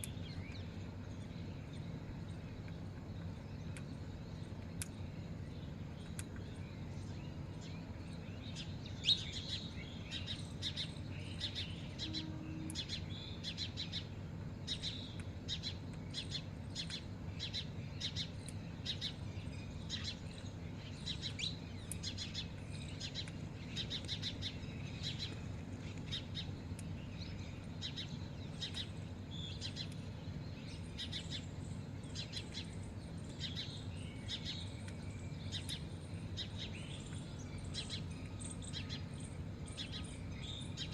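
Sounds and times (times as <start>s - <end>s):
low steady hum: 0.0s - 40.9s
small birds chirping: 0.0s - 40.9s.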